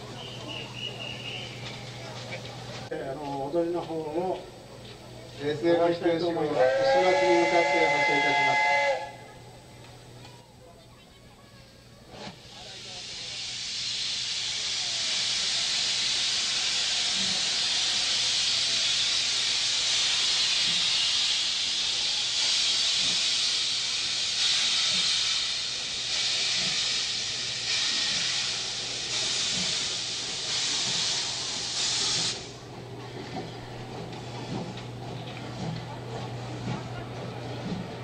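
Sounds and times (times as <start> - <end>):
steam locomotive hissing steam: 0.0 - 2.9, 5.1 - 9.4, 11.7 - 38.0
steam locomotive chuffing: 0.0 - 10.4, 11.7 - 38.0.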